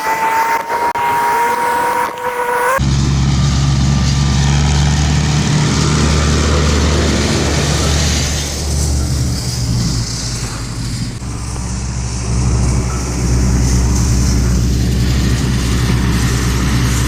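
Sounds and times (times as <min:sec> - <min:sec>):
high steady whine: 0:00.0 - 0:17.0
low engine drone: 0:00.0 - 0:17.0
machinery noise: 0:00.0 - 0:17.0.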